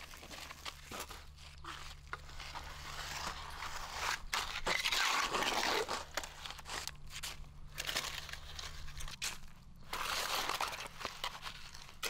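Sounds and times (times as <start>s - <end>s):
shovel scraping wet concrete: 0.0s - 12.0s.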